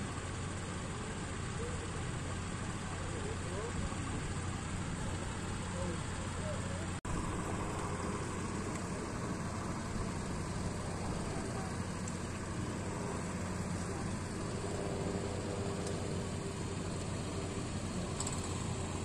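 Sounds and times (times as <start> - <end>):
distant farm machinery engine hum: 0.0 - 19.0.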